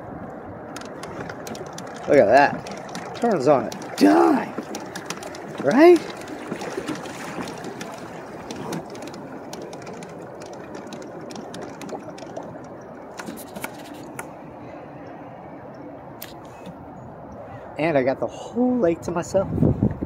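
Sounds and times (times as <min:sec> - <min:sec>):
water splashing along a kayak hull: 0:00.0 - 0:17.4.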